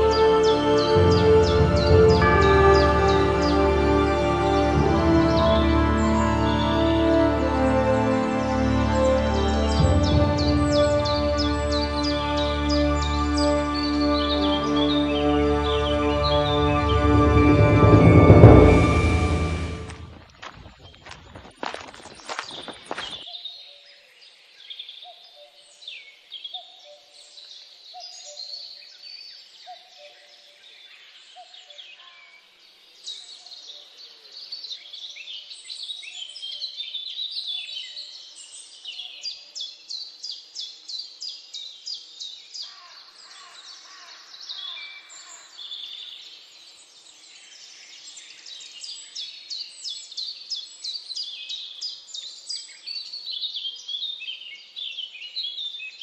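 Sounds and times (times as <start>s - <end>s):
birds singing and chirping: 0.0s - 4.0s, 5.1s - 17.5s, 20.3s - 56.0s.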